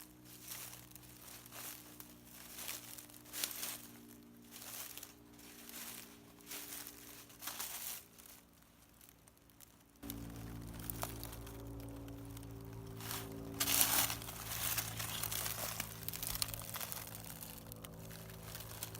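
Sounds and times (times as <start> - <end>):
footsteps crunching dry leaves: 0.0 - 18.9.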